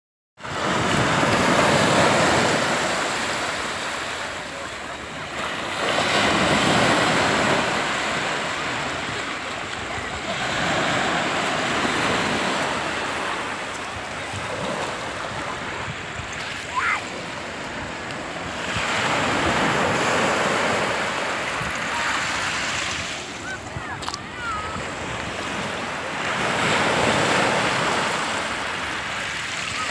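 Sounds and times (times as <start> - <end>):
waves washing over shells: 0.4 - 29.9.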